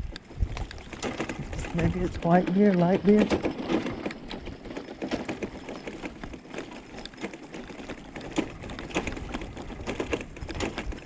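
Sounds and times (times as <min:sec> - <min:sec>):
bicycle rattling over cobblestones: 0:00.0 - 0:11.0.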